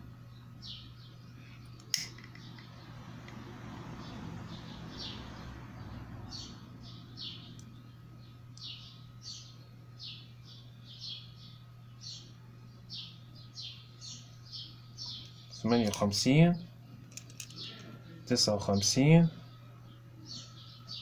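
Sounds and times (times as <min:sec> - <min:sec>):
low steady hum: 0:00.0 - 0:21.0
small bird chirping: 0:00.3 - 0:03.1, 0:04.0 - 0:18.3, 0:19.4 - 0:21.0.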